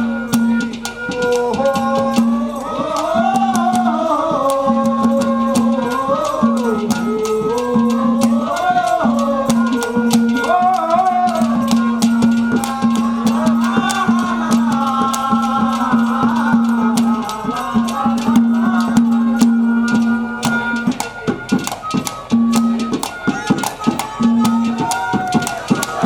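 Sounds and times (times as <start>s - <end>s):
hand-drum beats: 0.0s - 26.0s
held drone note: 0.0s - 26.0s
rattling percussion strokes: 0.0s - 26.0s.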